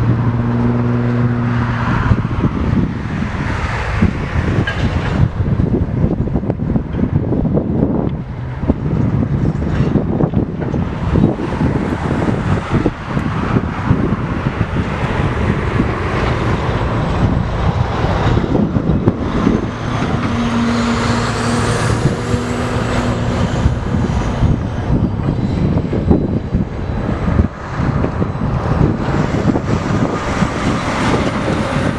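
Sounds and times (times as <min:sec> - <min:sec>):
freight train rumbling past: 0:00.0 - 0:31.9.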